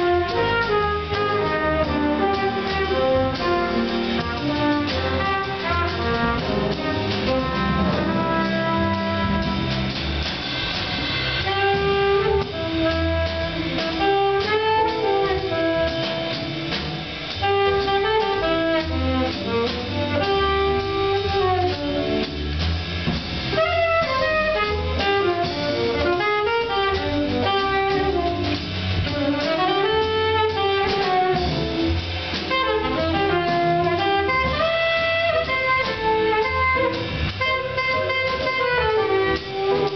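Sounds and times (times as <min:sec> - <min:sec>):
jazz combo playing live: 0:00.0 - 0:39.9.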